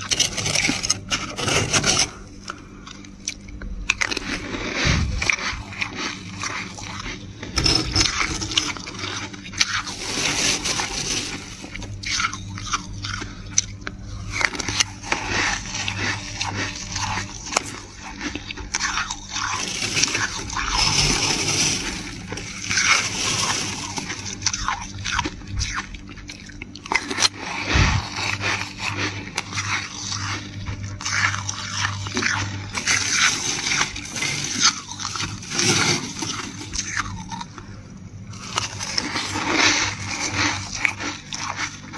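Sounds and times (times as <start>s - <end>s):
frost being scraped: 0.0s - 2.6s, 4.0s - 37.2s, 38.3s - 41.9s.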